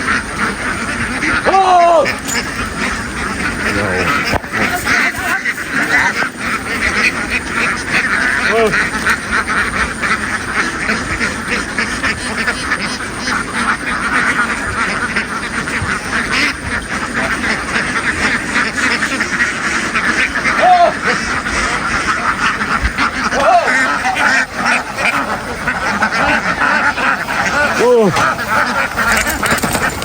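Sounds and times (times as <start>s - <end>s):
ducks quacking: 0.0s - 30.0s.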